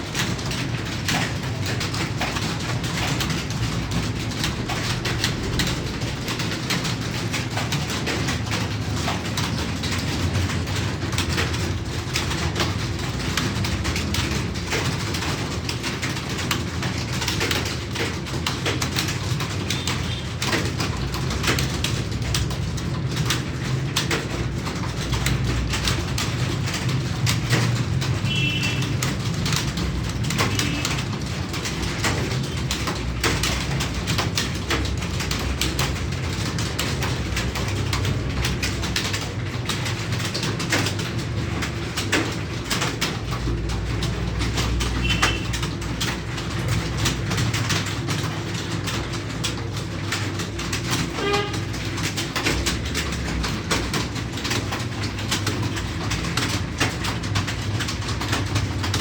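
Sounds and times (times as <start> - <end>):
keyboard typing: 0.0 - 59.0.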